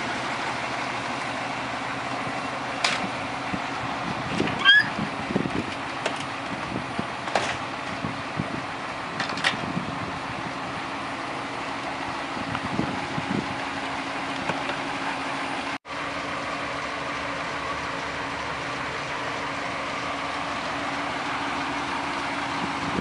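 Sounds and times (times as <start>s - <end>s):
van engine idling: 0.0s - 23.0s.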